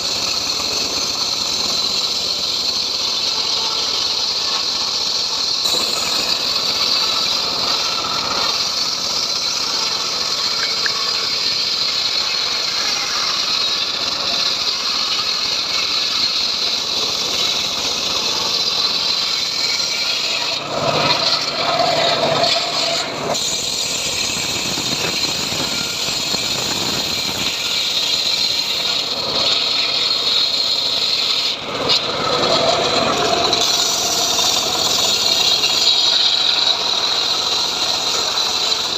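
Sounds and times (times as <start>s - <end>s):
sawmill engine and blade sawing: 0.0s - 38.9s.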